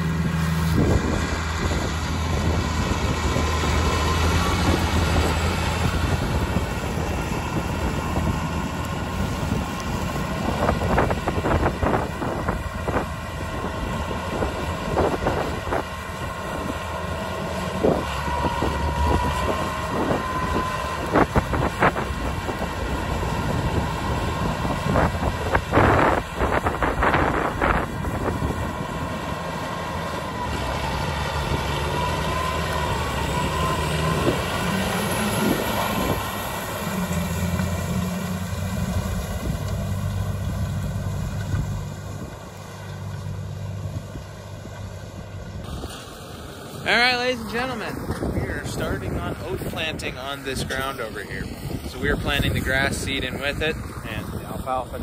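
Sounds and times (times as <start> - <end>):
wind buffeting microphone: 0.0 - 42.6, 46.8 - 55.0
tractor diesel engine running: 0.0 - 55.0.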